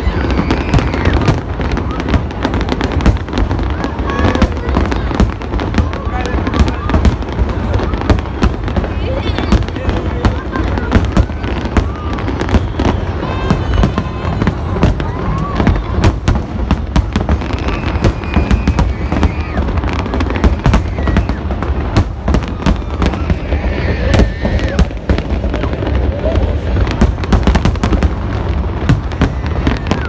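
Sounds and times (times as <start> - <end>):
fireworks bangs and crackles: 0.0 - 30.0
fireworks whistling: 0.0 - 30.0.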